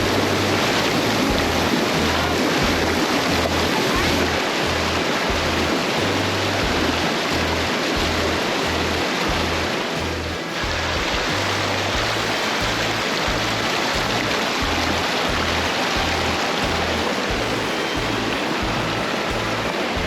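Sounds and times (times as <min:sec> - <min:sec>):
creek water rushing: 0:00.0 - 0:20.0
music bass line pulsing: 0:00.0 - 0:20.0.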